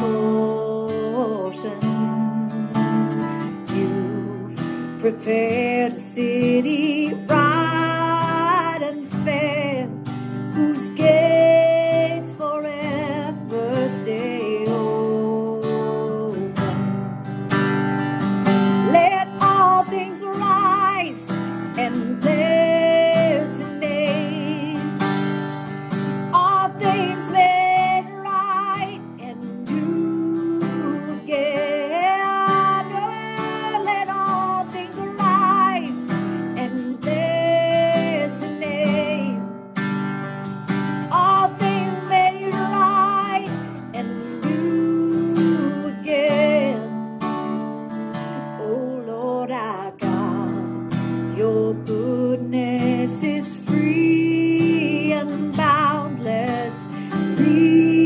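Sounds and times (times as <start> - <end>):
strummed acoustic guitar: 0.0 - 58.0
woman singing: 0.0 - 58.0.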